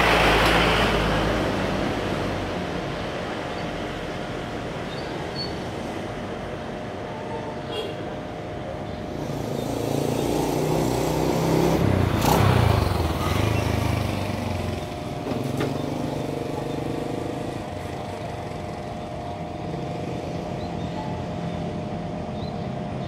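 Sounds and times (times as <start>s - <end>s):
motorcycle engines passing: 0.0s - 6.1s, 9.0s - 23.0s
light traffic: 0.0s - 23.0s.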